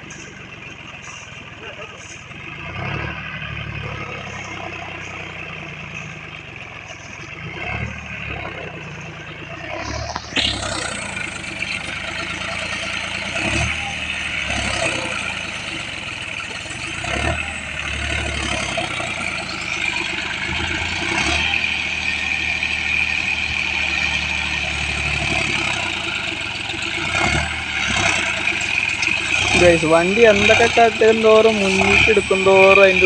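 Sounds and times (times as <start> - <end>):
tractor diesel engine straining: 0.0 - 33.0.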